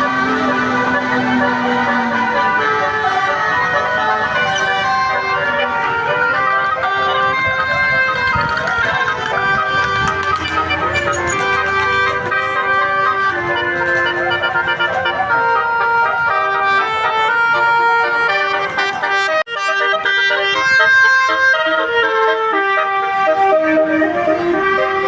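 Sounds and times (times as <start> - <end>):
multi-tone bus horn melody: 0.0 - 25.0.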